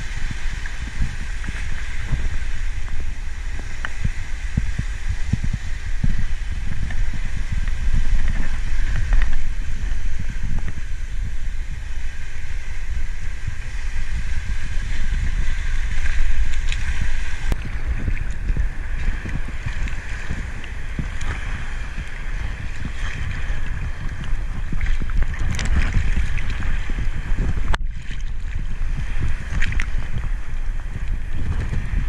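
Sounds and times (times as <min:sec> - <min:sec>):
waves breaking against rocks: 0:00.0 - 0:32.0
wind on microphone: 0:00.0 - 0:32.0.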